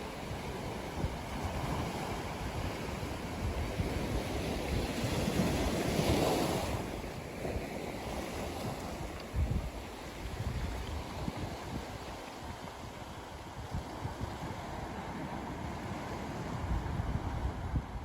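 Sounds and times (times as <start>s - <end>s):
waves breaking on shore: 0.0s - 18.0s.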